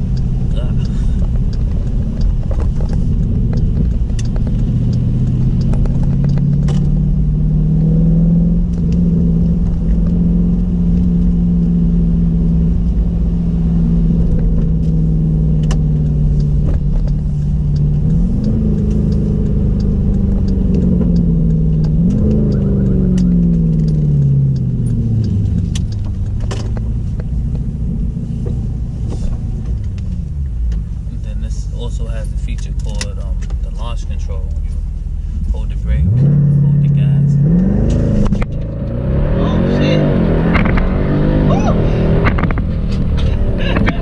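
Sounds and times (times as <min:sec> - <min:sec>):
engine revving: 0:00.0 - 0:30.4, 0:31.1 - 0:44.0
car engine droning: 0:00.0 - 0:44.0.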